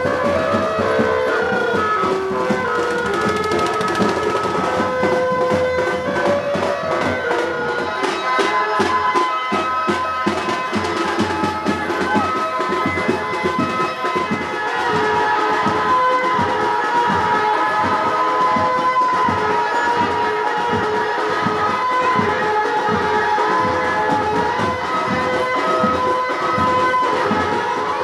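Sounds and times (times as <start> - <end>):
steady drumbeats: 0.0 - 28.0
wind instrument melody: 0.0 - 28.0.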